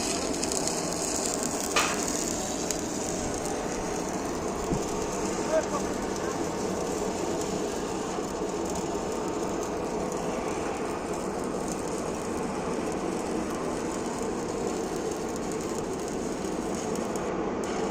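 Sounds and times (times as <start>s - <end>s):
industrial hiss and rumble: 0.0s - 17.9s.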